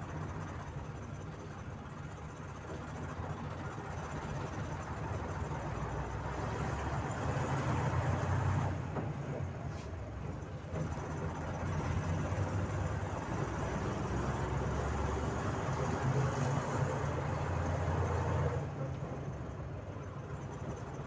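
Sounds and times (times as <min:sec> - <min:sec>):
bus engine running: 0:00.0 - 0:21.0
road noise: 0:00.0 - 0:21.0.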